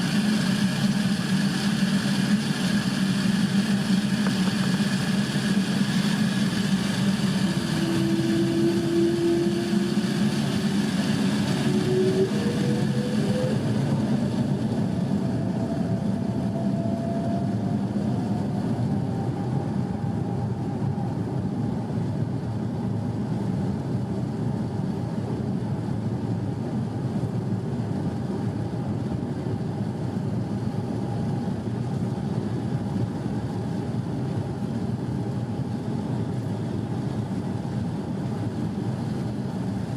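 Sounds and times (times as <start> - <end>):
jet engines rumbling with whine: 0.0 - 39.9.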